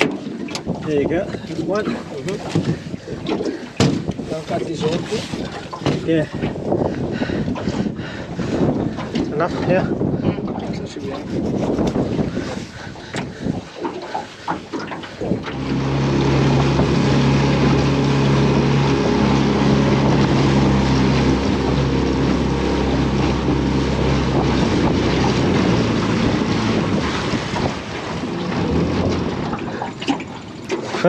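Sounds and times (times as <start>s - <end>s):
outboard motor running: 0.0s - 31.0s
wind noise on microphone: 0.0s - 31.0s.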